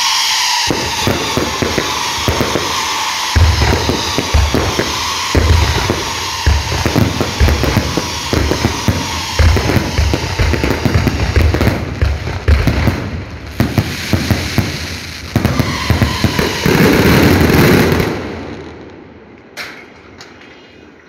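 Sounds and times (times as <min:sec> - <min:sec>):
firework shells bursting: 0:00.0 - 0:18.2
firework crackling: 0:00.0 - 0:19.3.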